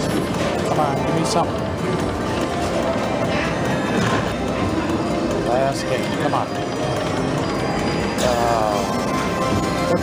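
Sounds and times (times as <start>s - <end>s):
slot machine electronic music: 0.0s - 10.0s.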